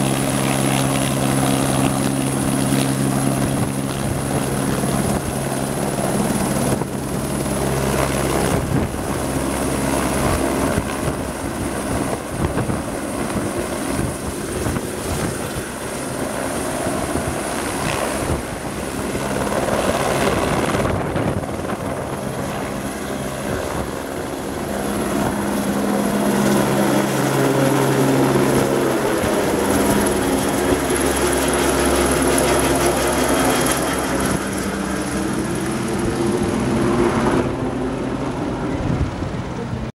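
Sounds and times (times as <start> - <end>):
helicopter rotor chop: 0.0 - 39.9
high turbine whine: 0.0 - 39.9.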